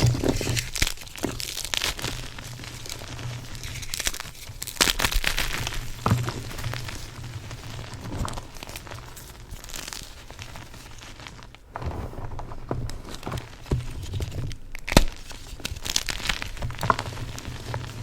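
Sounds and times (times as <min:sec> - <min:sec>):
chalk being crushed: 0:00.0 - 0:18.0.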